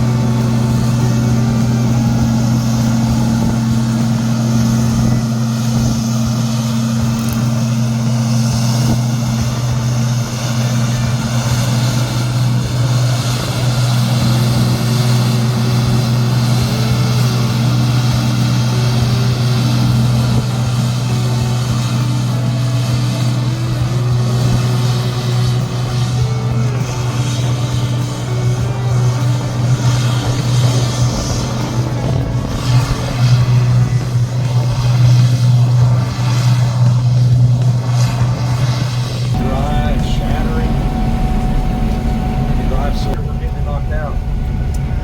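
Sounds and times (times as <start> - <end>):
combine engine hum: 0.0 - 45.0
rushing noise of machine: 0.0 - 45.0.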